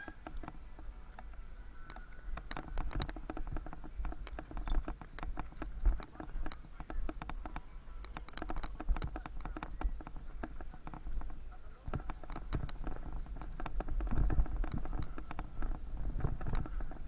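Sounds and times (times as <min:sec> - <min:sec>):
bicycle rattling and ticking: 0:00.0 - 0:17.0
wind rumble on microphone: 0:00.0 - 0:17.0.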